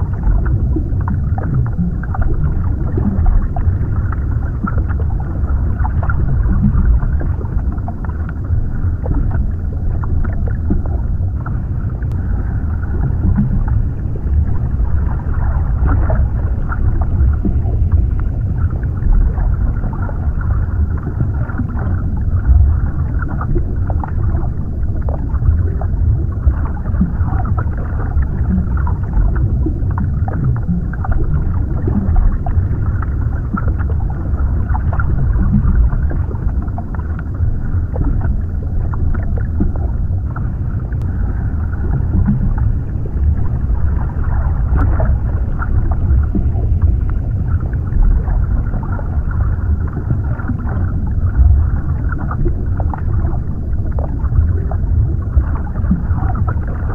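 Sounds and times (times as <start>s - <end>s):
muffled underwater rumble: 0.0s - 56.9s
small bubbling and crackling ticks: 0.0s - 56.9s.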